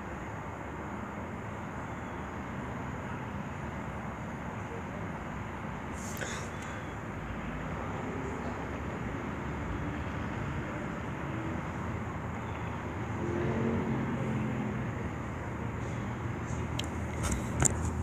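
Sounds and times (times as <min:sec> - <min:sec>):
distant traffic rumble and hiss: 0:00.0 - 0:18.0.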